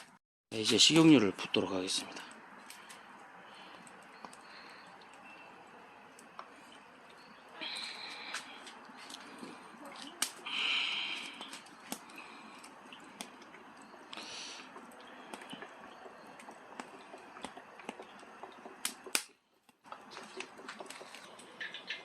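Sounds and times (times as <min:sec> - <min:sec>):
wood fire crackling: 0:00.6 - 0:22.0.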